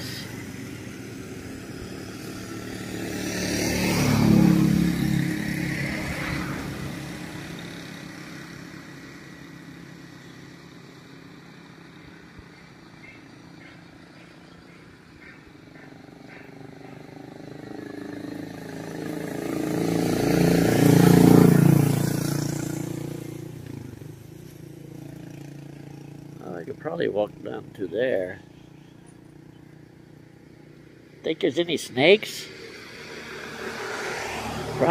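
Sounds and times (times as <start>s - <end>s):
motor vehicle passing by: 0.0s - 34.9s.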